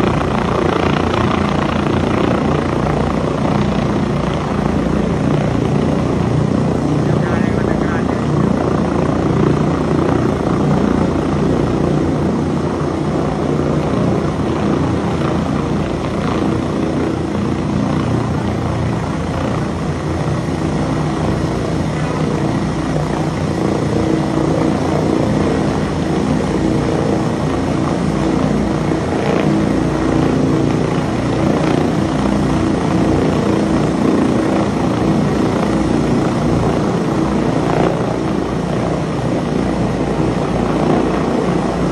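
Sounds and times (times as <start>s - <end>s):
helicopter engine hum: 0.0s - 41.9s
helicopter rotor chopping: 0.0s - 41.9s.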